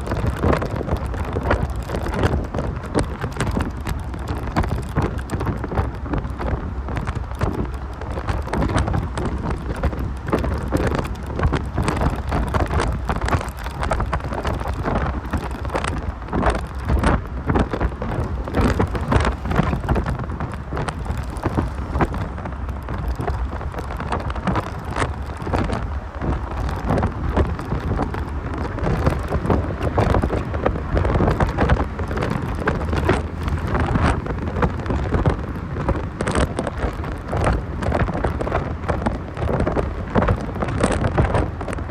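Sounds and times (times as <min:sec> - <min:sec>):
road noise rumble: 0:00.0 - 0:41.9
wind buffeting microphone: 0:00.0 - 0:41.9.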